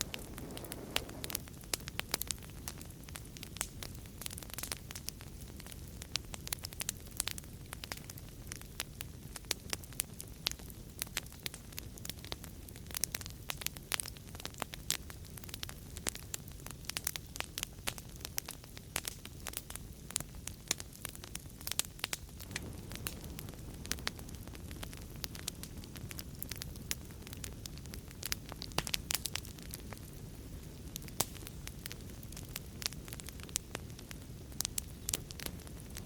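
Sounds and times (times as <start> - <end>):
fire crackling and popping: 0.0 - 36.0
fire flames rumbling: 0.0 - 36.0.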